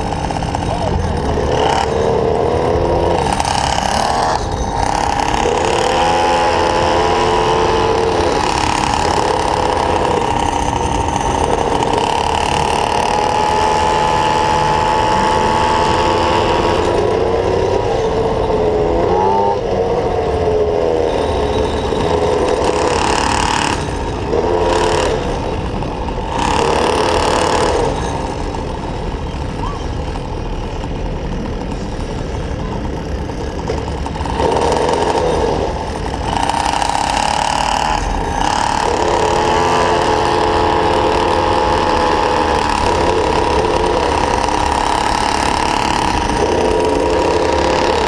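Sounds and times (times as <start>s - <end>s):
small scooter engine running: 0.0s - 48.0s.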